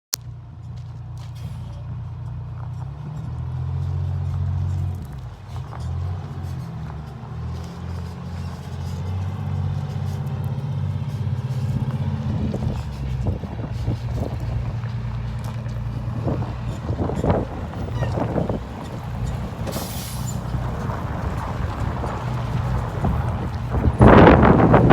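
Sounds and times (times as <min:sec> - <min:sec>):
fire engine diesel rumbling: 0:00.1 - 0:24.9.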